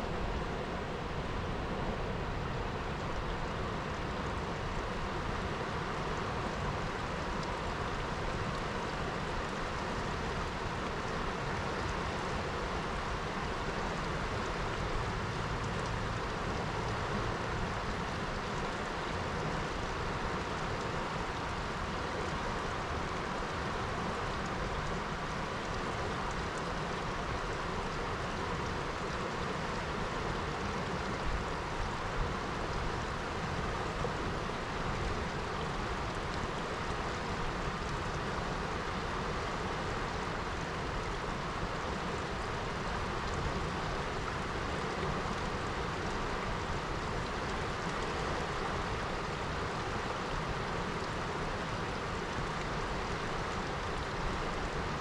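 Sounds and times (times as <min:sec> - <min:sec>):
river water rushing over rapids: 0:00.0 - 0:55.0.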